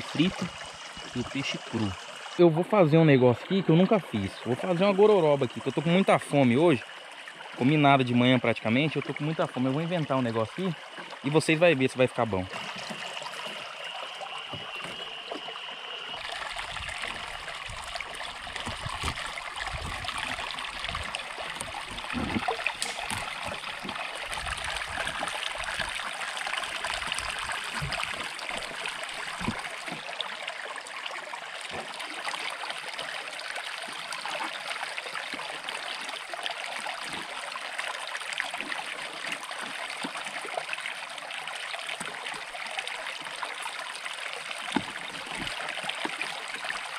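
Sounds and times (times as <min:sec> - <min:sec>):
river water flowing: 0:00.0 - 0:46.9.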